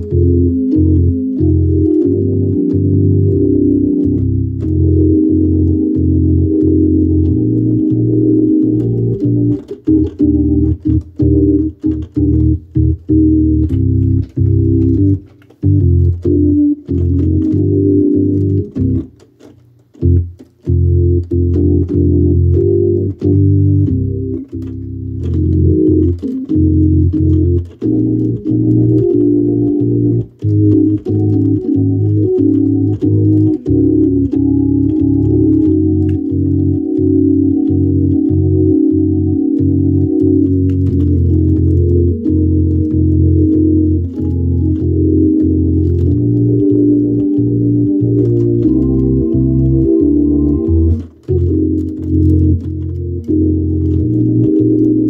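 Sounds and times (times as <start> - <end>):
organ playing choppy chords: 0.0 - 55.0.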